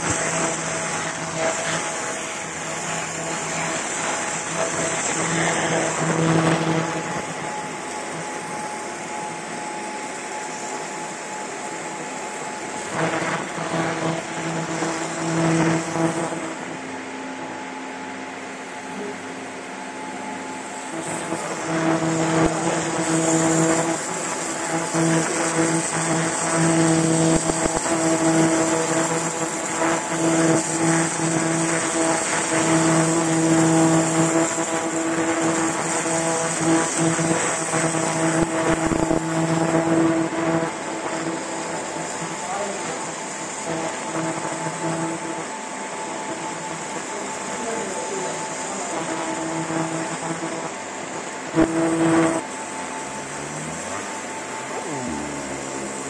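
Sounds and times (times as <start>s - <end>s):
laser machine buzzing hum: 0.0s - 56.0s.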